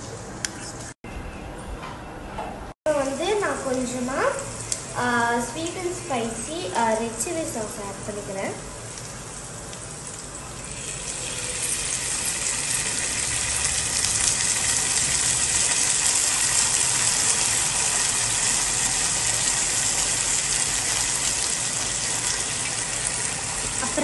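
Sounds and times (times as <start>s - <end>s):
vegetables sizzling in oil: 2.9s - 24.0s.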